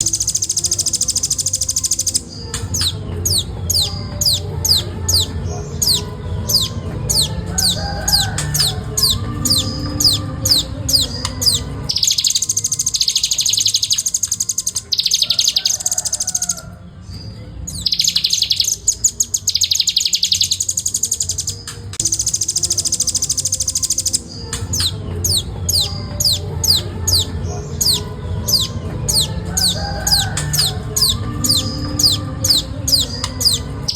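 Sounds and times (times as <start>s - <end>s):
nuthatch singing high trills: 0.0s - 33.9s.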